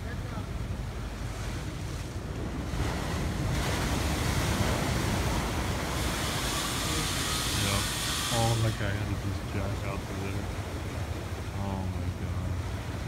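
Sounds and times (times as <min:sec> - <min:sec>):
ocean surge washing around dock: 0:00.0 - 0:13.0
wind buffeting microphone: 0:00.0 - 0:13.0.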